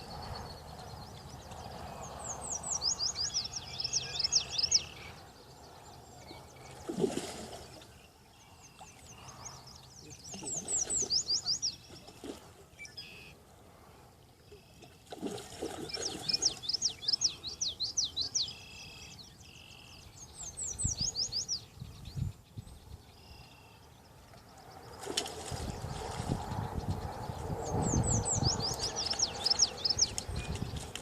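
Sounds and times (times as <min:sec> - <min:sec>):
bird chirping in rapid runs: 0:00.0 - 0:12.2, 0:15.7 - 0:23.6, 0:24.4 - 0:31.0.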